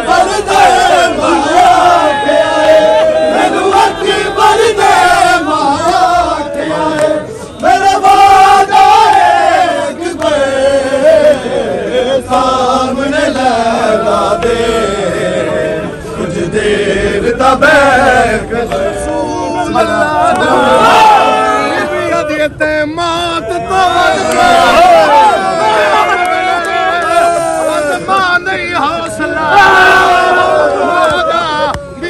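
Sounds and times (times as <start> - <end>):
crowd of men chanting in unison: 0.0 - 32.0.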